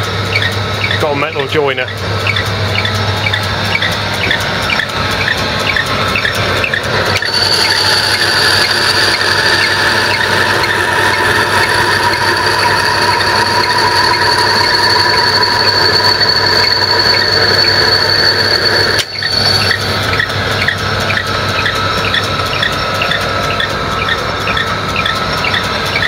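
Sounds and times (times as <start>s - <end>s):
high-pitched drive belt squeal: 0.0s - 26.0s
metal lathe running: 0.0s - 26.0s
motor hum: 0.0s - 26.0s.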